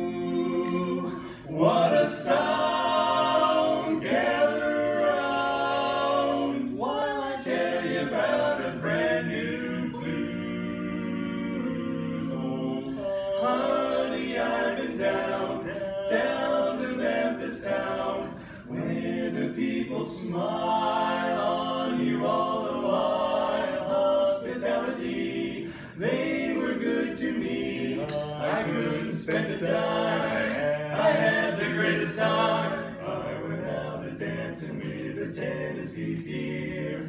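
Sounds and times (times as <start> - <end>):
male voices singing in harmony: 0.0 - 37.0.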